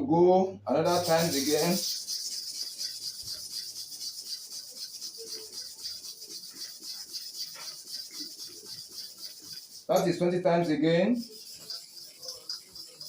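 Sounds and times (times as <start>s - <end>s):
blade scraping on sharpening surface: 0.9s - 13.0s.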